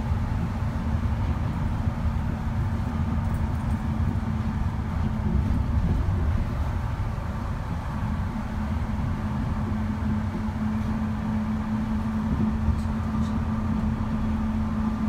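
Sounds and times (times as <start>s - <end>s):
train rumble from inside: 0.0s - 15.0s.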